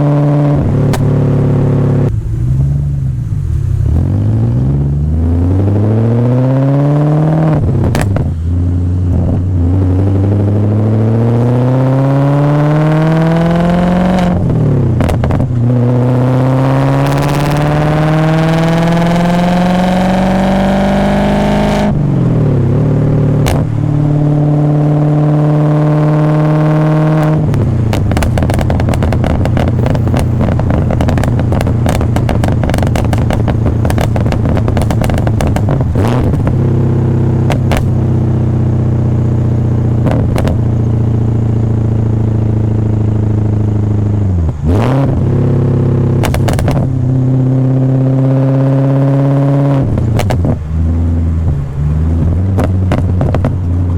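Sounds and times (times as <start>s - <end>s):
car engine revving: 0.0s - 53.9s
exhaust crackling: 0.0s - 53.9s.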